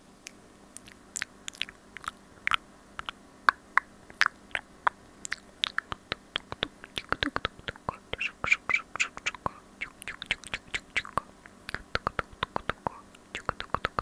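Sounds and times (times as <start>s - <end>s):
wet lip and tongue clicks: 0.2s - 14.0s.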